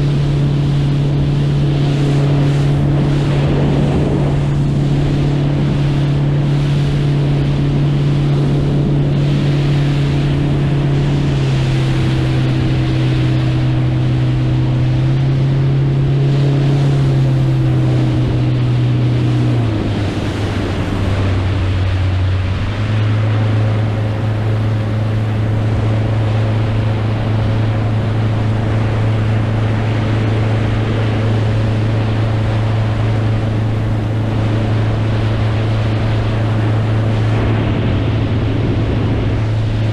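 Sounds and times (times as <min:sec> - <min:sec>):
motorboat engine drone: 0:00.0 - 0:39.9
water rushing: 0:00.0 - 0:39.9
wind: 0:00.0 - 0:39.9.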